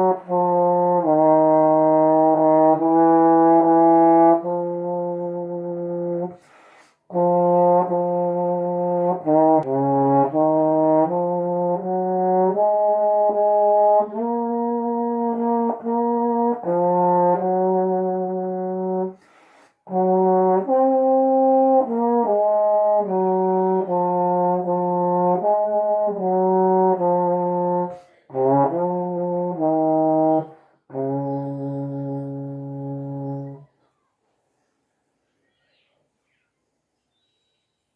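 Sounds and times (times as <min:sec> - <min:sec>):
solo trombone playing hymn: 0:00.0 - 0:06.5, 0:07.1 - 0:33.6.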